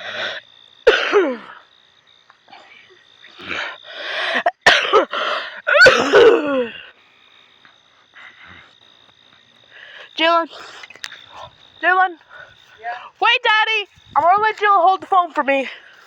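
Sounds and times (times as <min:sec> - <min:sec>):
steady high whine: 0:00.0 - 0:16.0.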